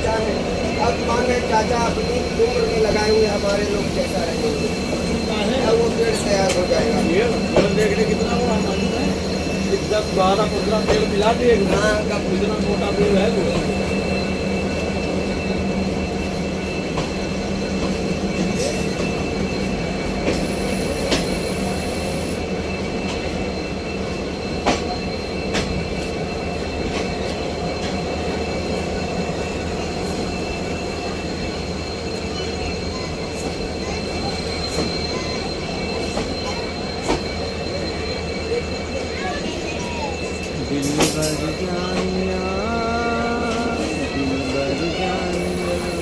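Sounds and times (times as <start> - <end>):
high-pitched wheel squeal: 0.0 - 46.0
train rumbling on rails: 0.0 - 46.0.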